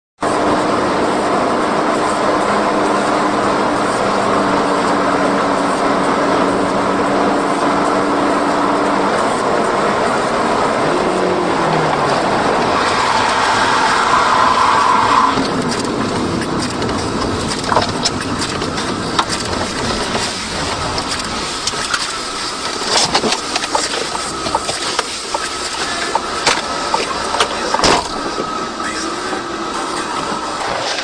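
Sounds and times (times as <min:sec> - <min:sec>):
car road and engine noise: 0:00.2 - 0:31.0.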